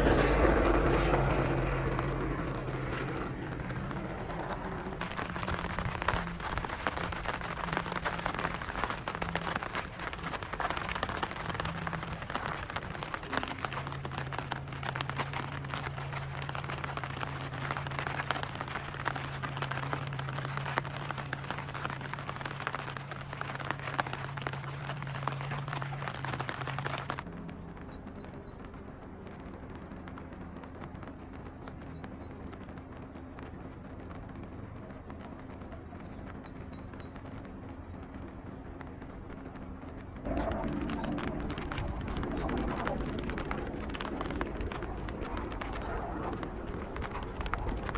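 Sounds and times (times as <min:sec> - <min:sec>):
rain pattering: 0:00.0 - 0:47.9
steady low hum: 0:00.0 - 0:47.9.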